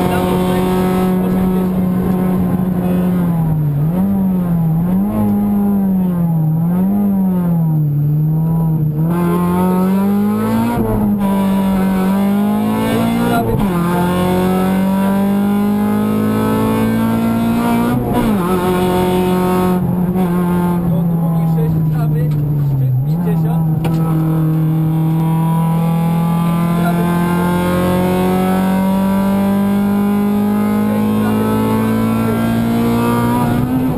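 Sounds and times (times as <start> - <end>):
engine upshifts: 0.0 - 33.9
rally car engine revving: 0.0 - 33.9.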